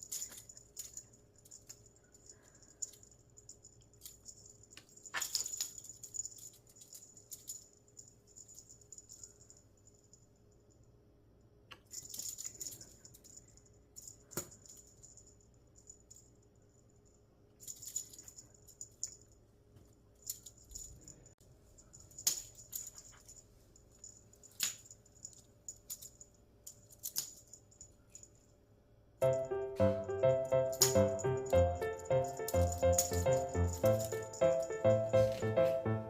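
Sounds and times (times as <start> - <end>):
small jingle bell jingling: 0.0 - 10.9, 11.9 - 19.4, 20.2 - 28.6, 29.2 - 36.0.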